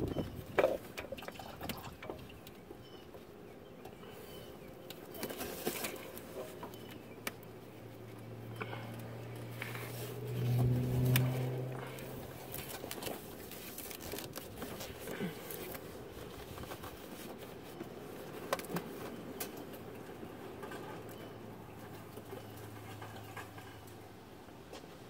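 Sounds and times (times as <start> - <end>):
low steady hum: 0.0 - 24.6.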